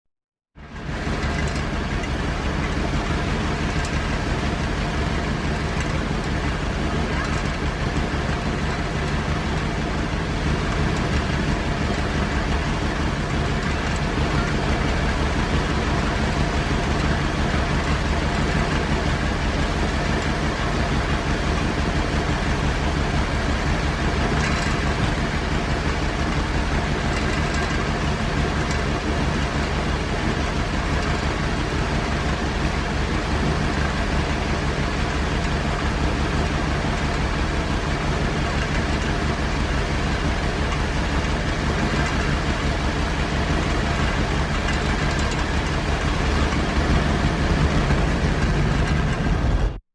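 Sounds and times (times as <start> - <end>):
engine idling: 0.6 - 49.8.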